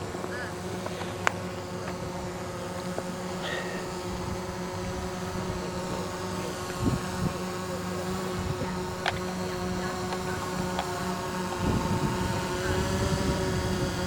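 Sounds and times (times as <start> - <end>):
model airplane motor buzzing: 0.0 - 14.0
wind gusting on microphone: 1.4 - 14.0.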